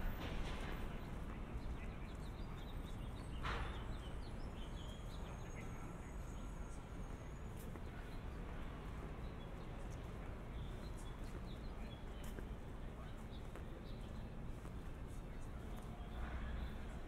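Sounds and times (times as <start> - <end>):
low city rumble: 0.0 - 17.0
small birds chirping: 0.5 - 17.0.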